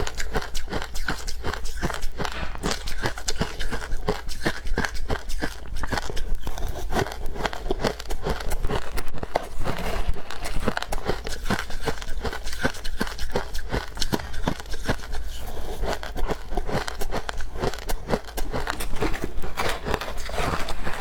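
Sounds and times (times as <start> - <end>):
chewing frost crunches: 0.0 - 21.0.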